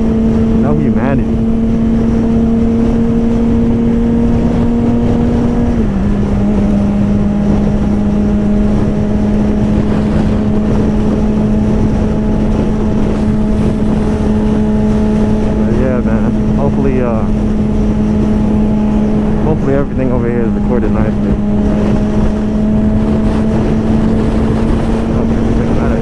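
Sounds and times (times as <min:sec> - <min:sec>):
motorcycle engine high-revving: 0:00.0 - 0:26.0
wind rush on microphone: 0:00.0 - 0:26.0.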